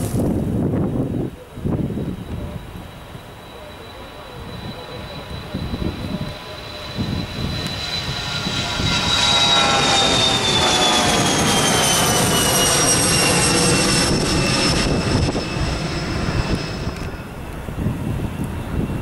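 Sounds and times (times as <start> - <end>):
jet engines roaring at takeoff: 0.3 - 19.0.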